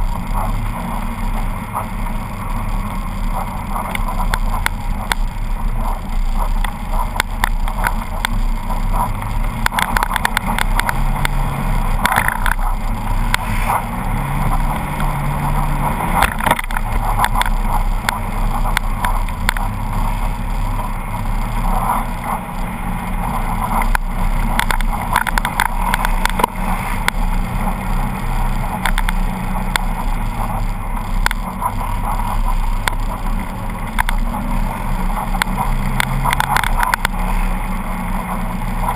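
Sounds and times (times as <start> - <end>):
utility vehicle engine revving: 0.0 - 38.9.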